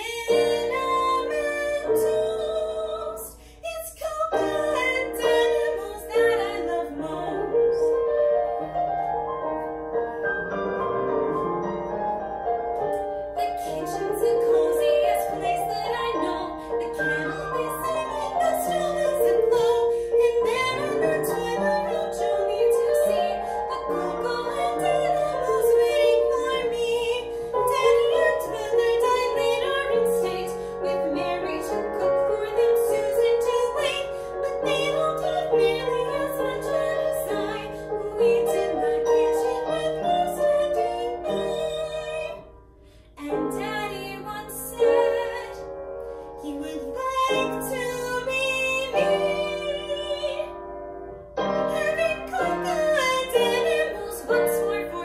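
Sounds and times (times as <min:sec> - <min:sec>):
woman singing operatically: 0:00.0 - 0:09.0, 0:13.4 - 0:42.4, 0:43.2 - 0:45.7, 0:46.4 - 0:50.5, 0:51.6 - 0:55.0
piano accompaniment: 0:00.0 - 0:55.0.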